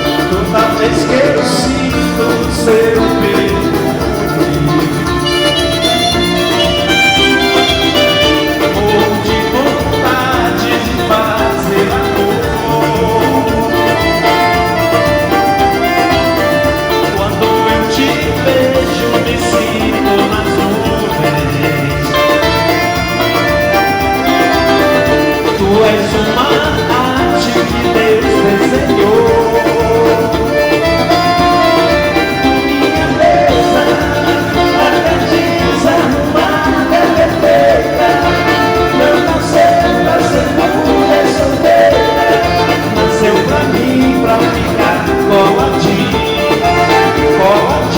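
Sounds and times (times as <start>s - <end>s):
live latin band music: 0.0s - 47.9s
person singing: 0.0s - 47.9s.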